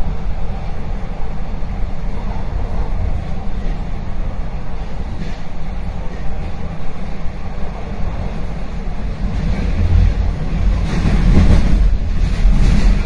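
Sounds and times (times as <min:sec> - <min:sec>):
subway train rumbling on tracks: 0:00.0 - 0:13.0.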